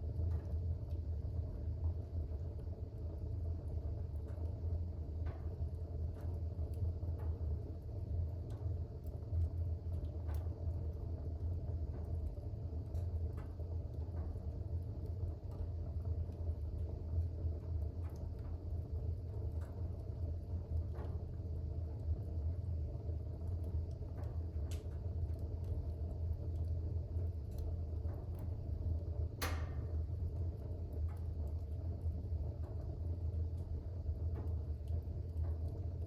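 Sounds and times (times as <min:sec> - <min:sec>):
fire crackling and popping: 0:00.0 - 0:36.0
fire flames rumbling: 0:00.0 - 0:36.0.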